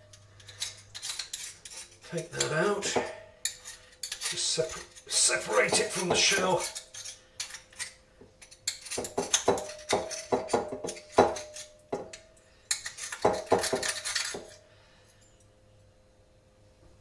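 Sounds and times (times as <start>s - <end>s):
knife scraping oyster shell: 0.1s - 14.6s.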